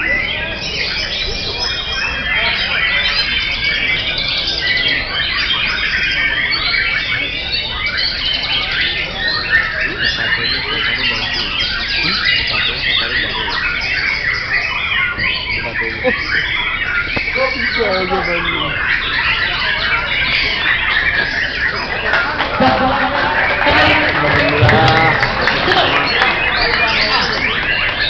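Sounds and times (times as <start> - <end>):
songbirds whistling and trilling: 0.0 - 22.5, 23.6 - 28.0.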